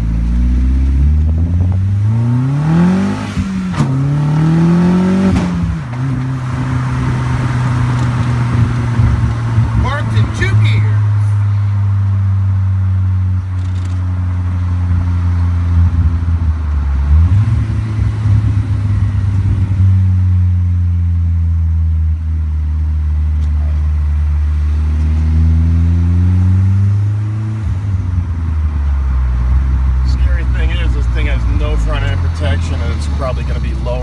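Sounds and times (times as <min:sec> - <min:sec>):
car engine: 0:00.0 - 0:34.0.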